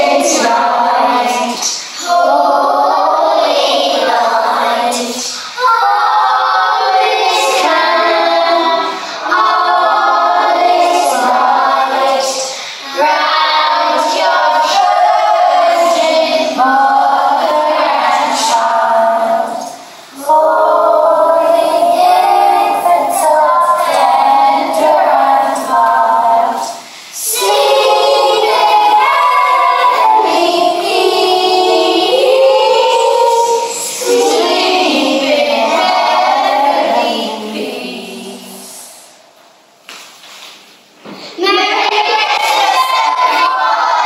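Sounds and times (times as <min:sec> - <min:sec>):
children singing together: 0:00.0 - 0:39.3, 0:41.2 - 0:44.0.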